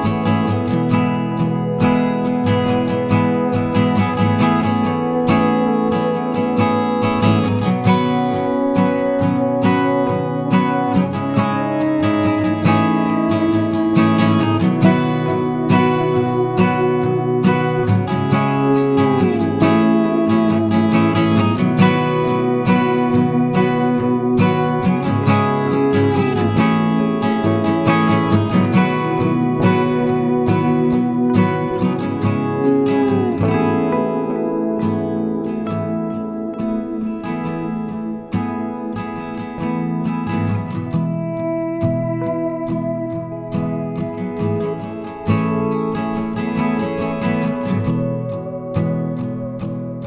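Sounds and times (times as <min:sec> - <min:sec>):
acoustic guitar strumming: 0:00.0 - 0:50.0.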